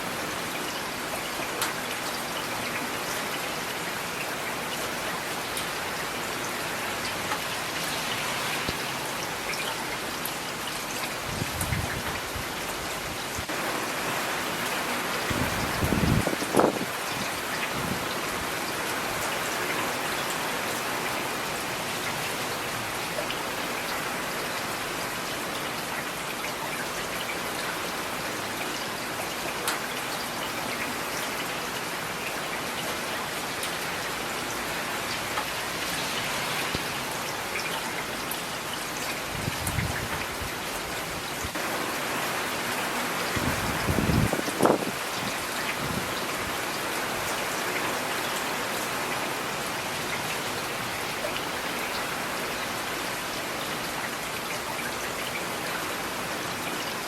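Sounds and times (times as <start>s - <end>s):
rain on a hard surface: 0.0s - 57.0s.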